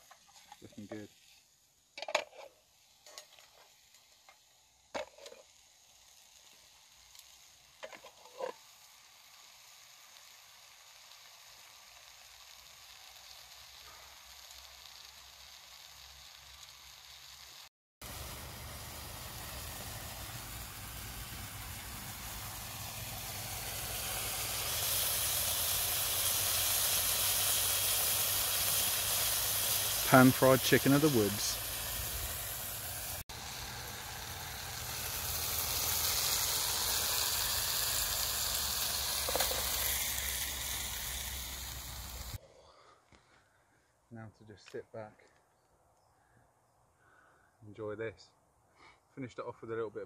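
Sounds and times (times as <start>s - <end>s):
mushrooms sizzling in a pan: 0.0s - 42.4s.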